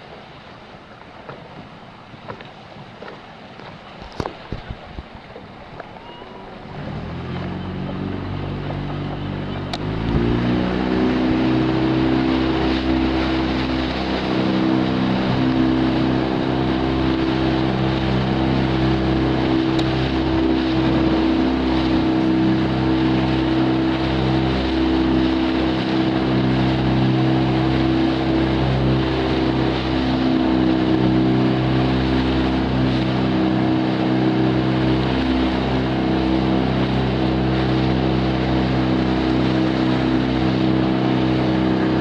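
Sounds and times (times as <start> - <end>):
motorboat engine revving: 5.4 - 42.0.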